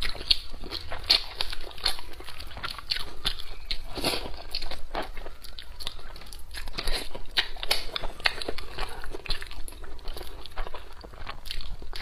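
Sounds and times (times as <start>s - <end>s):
wet chewing and lip smacking: 0.0s - 12.0s.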